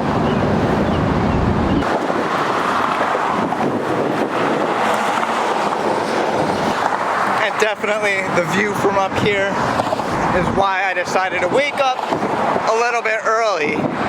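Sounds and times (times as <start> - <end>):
road traffic passing: 0.0 - 14.0
wind rumbling on microphone: 0.0 - 14.0.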